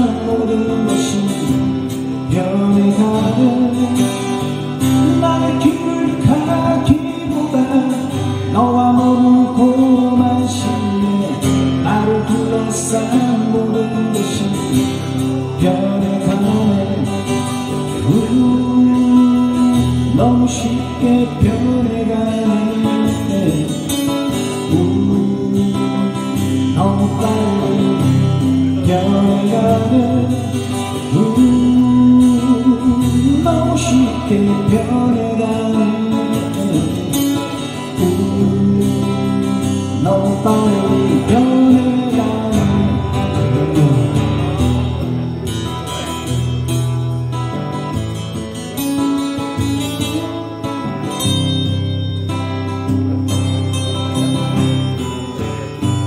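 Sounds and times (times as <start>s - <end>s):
man singing slow song: 0.0s - 46.8s
acoustic guitars strumming: 0.0s - 56.0s.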